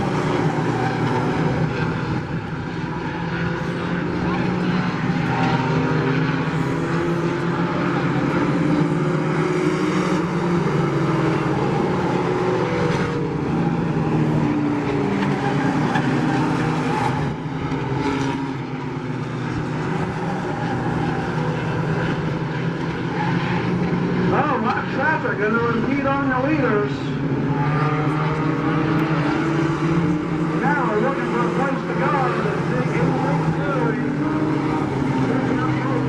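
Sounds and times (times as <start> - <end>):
racing truck engines droning: 0.0 - 36.0.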